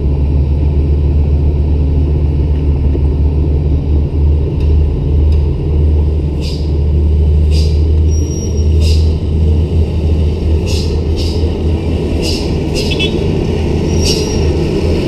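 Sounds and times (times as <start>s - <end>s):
bulldozer engine running: 0.0s - 15.0s
truck diesel engine rumbling: 0.0s - 15.0s.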